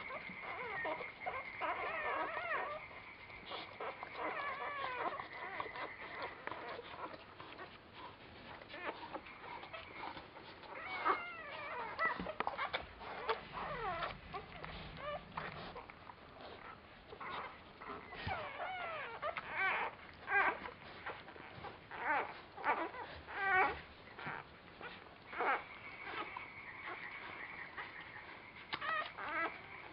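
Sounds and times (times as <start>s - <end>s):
puppies squeaking and whimpering: 0.0s - 29.9s.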